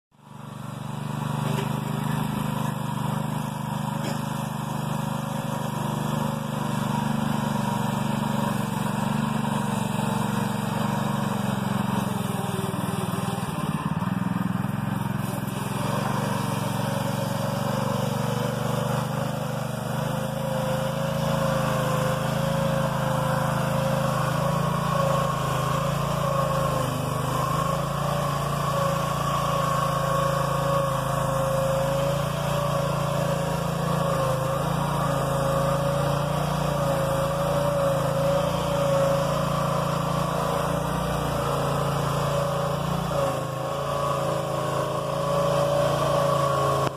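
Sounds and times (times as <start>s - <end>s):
lawn mower engine running: 0.1s - 46.9s.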